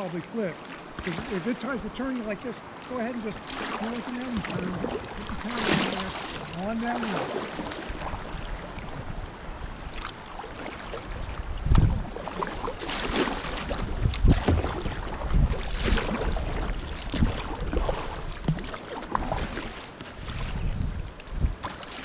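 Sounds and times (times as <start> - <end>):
paddle splashing in water: 0.0 - 22.0.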